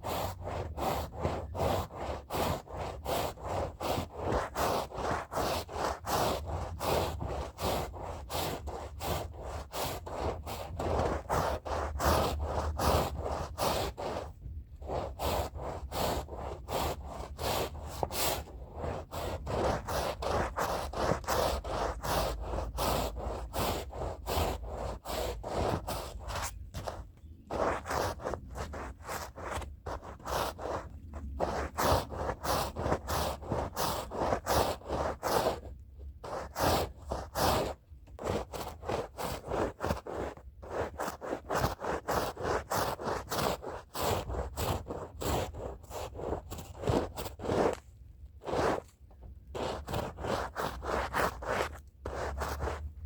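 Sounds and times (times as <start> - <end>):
brush scrubbing a rug: 0.0 - 47.8, 48.4 - 52.9.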